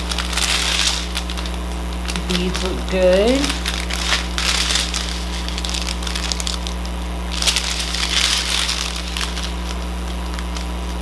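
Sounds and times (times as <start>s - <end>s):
low electrical hum: 0.0s - 11.0s
plastic bags crinkling: 0.0s - 11.0s.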